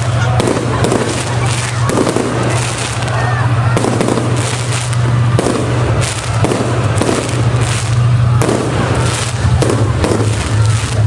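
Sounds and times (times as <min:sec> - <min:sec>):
fireworks bangs: 0:00.0 - 0:11.0
fireworks crackling: 0:00.0 - 0:11.0
steady low rumble: 0:00.0 - 0:11.0.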